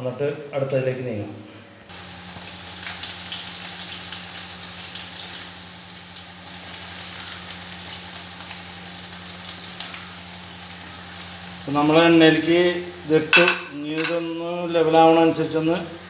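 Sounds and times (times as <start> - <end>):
food sizzling in hot oil: 1.9 - 16.0.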